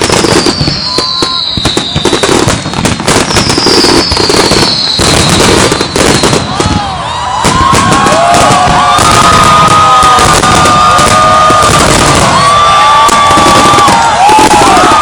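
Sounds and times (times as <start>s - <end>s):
firework whistles: 0.0s - 15.0s
fireworks banging and crackling: 0.0s - 15.0s.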